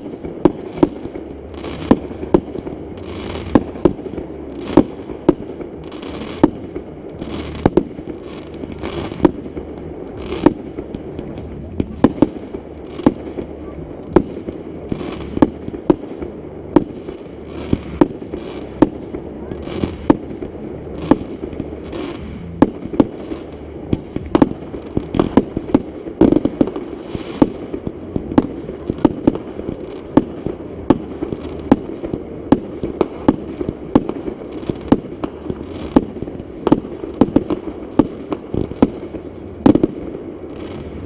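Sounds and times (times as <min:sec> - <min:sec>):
continuous rumble: 0:00.0 - 0:41.0
fireworks bangs: 0:00.0 - 0:41.0.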